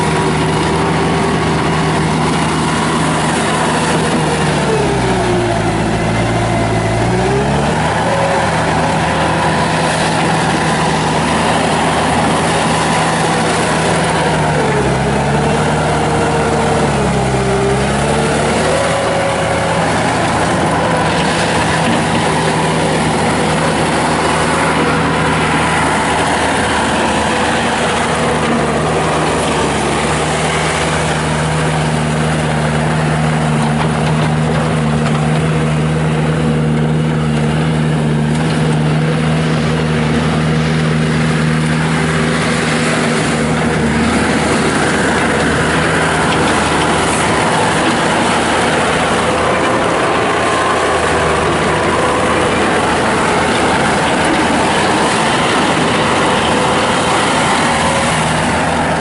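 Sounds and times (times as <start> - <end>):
diesel engine at high revs: 0.0 - 59.0.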